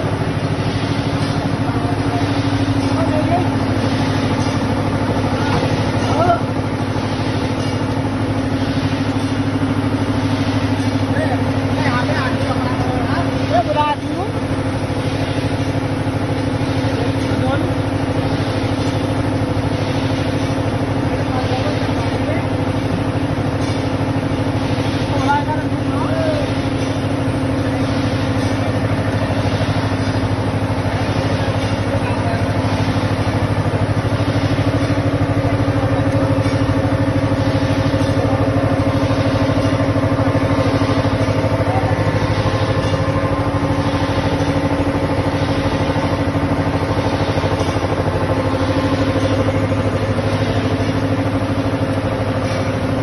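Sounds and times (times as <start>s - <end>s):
pugmill motor humming: 0.0s - 53.0s.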